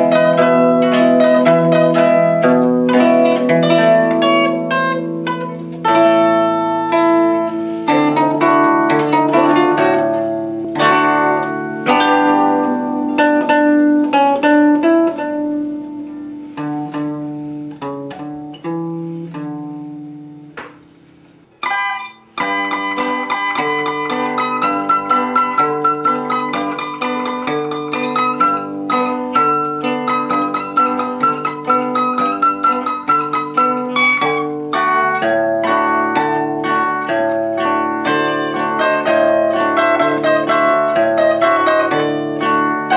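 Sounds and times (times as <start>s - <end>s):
zither melody: 0.0s - 42.9s.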